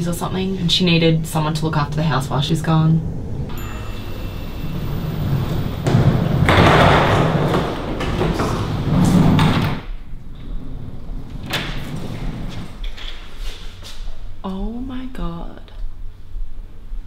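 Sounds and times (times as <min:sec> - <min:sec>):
sliding steel lift doors: 0:00.0 - 0:14.2.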